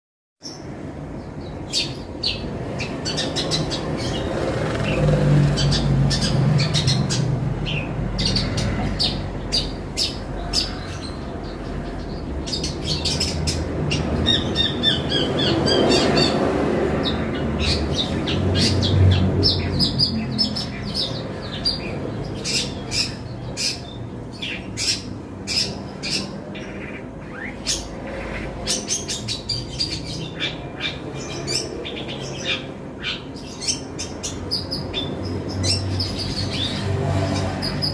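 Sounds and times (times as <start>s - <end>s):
shrike harsh chirps and squawks: 1.5s - 37.9s.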